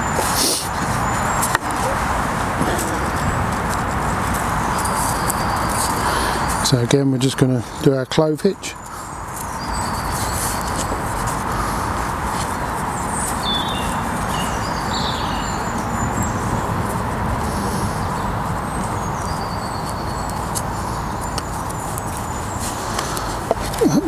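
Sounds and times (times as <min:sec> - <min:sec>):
small birds chirping: 0:00.0 - 0:24.0
steady rushing noise: 0:00.0 - 0:24.0.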